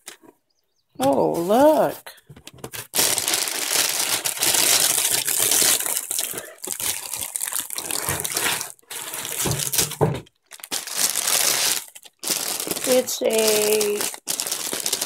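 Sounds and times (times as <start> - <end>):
plastic packaging crinkling: 1.1 - 15.0.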